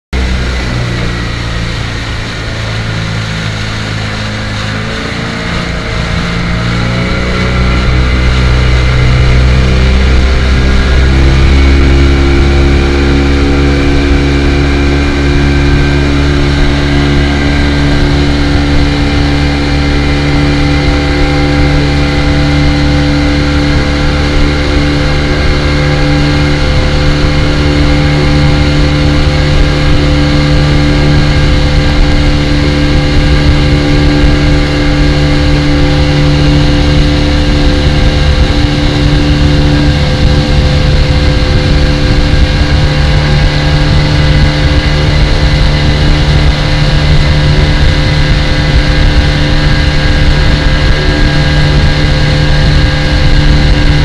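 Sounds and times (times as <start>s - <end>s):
speedboat engine running: 0.0s - 54.0s.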